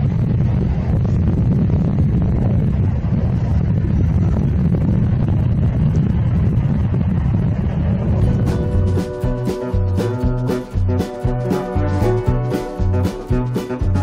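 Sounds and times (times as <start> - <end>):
wind buffeting microphone: 0.0 - 14.0
diesel train passing: 2.3 - 14.0.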